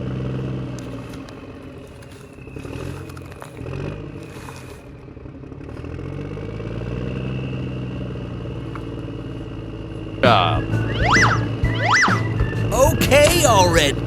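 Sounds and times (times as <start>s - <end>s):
vehicle engine revving: 0.0s - 12.7s.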